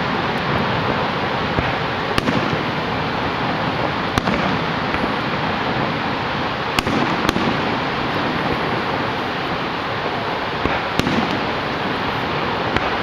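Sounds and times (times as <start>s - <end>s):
fireworks bursting: 0.0s - 13.0s
waterfall roaring: 0.0s - 13.0s.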